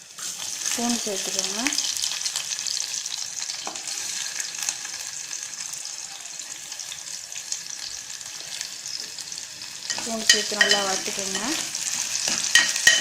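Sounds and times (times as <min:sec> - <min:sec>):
garlic sizzling in hot oil: 0:00.0 - 0:13.0.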